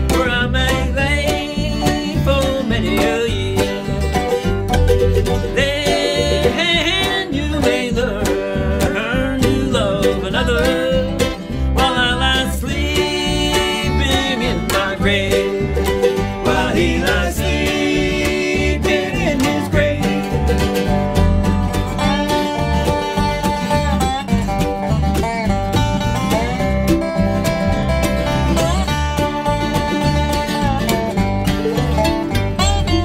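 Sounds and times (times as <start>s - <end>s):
bluegrass band playing: 0.0s - 33.0s
sliding bending lead notes: 0.0s - 33.0s
steady bass pulse: 0.0s - 33.0s.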